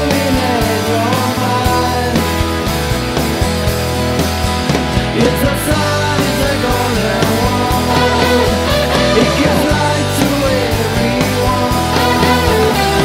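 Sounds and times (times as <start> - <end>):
rock band playing: 0.0 - 13.0
bending lead guitar line: 1.6 - 13.0.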